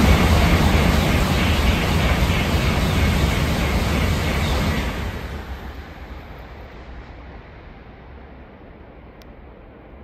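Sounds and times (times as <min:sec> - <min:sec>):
high-speed train rush: 0:00.0 - 0:10.0.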